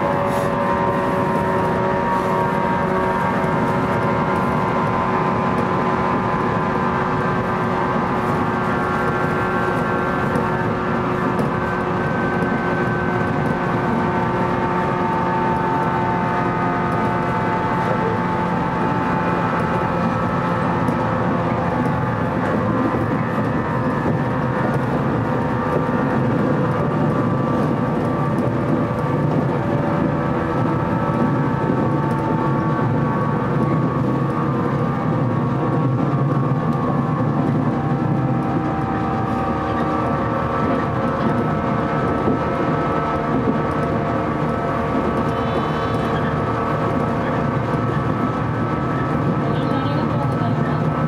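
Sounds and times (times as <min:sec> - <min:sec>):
steady whining tones: 0:00.0 - 0:51.0
train wheels rumbling on rail: 0:00.0 - 0:51.0.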